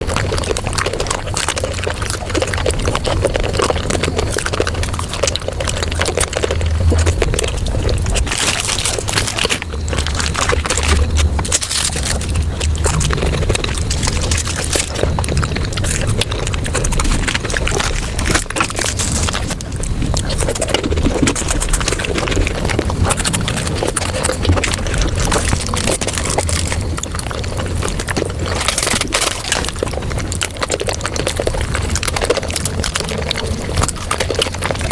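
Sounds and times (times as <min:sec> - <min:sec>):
fast crunching and chewing: 0:00.0 - 0:34.9
wet mouth clicks: 0:00.1 - 0:34.9.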